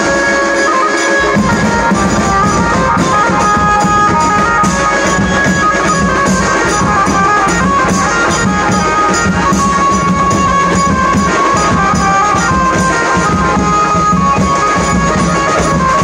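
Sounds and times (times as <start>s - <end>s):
drum kit with cymbals: 0.0s - 16.0s
street band playing dance music: 0.0s - 16.0s.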